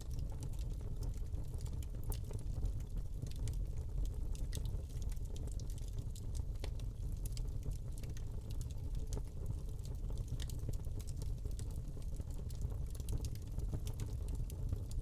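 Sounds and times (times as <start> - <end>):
wood fire crackling in fireplace: 0.0 - 15.0.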